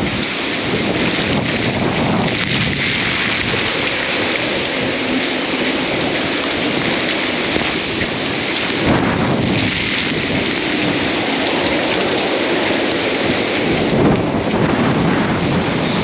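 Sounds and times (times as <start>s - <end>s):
heavy rain: 0.0s - 16.0s
strong wind buffeting microphone: 0.0s - 16.0s.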